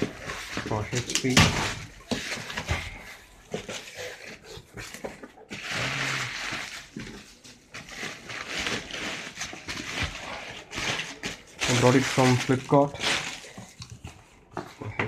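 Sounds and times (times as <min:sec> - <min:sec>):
bubble wrap and cardboard rustling: 0:00.0 - 0:15.0.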